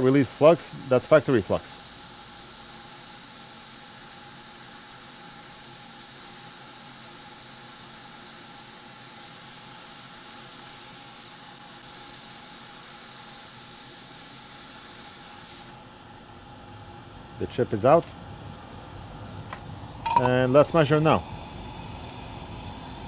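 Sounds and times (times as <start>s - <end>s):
hot air station hissing: 0.0s - 23.0s.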